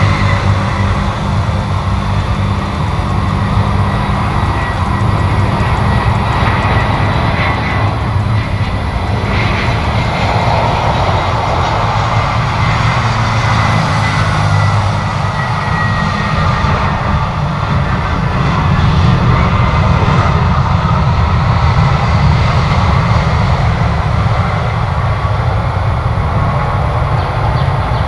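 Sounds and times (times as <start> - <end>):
high engine whine: 0.0 - 28.0
jet engines rumbling: 0.0 - 28.0.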